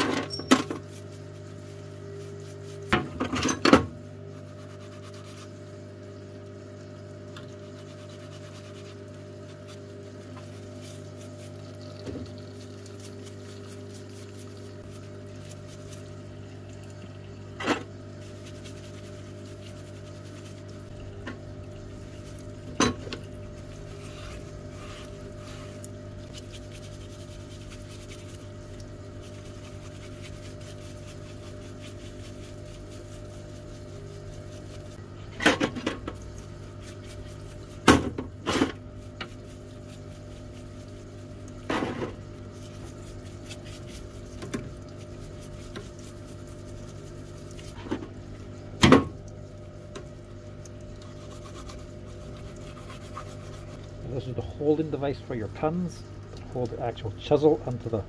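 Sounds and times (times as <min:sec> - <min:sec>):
pump humming: 0:00.0 - 0:58.0.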